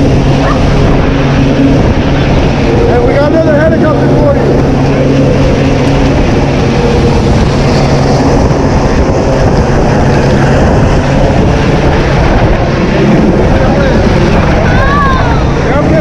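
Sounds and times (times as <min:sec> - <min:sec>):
dense rushing noise: 0:00.0 - 0:16.0
engine drone: 0:00.0 - 0:16.0.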